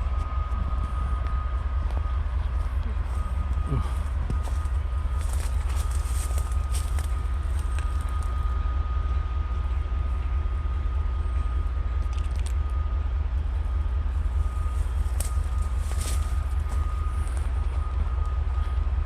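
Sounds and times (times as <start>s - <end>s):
diesel locomotive engines idling: 0.0s - 19.0s.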